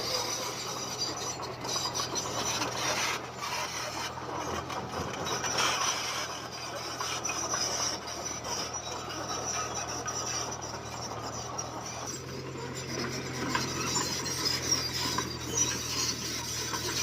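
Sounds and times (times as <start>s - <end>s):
bulldozer diesel engine: 0.0s - 17.0s
steel tracks grinding and clattering: 0.0s - 17.0s.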